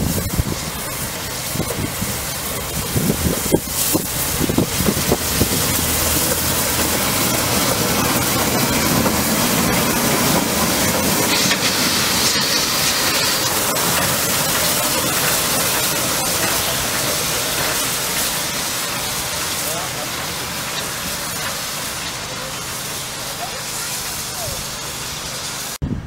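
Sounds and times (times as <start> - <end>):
locomotive steam hissing: 0.0 - 25.9.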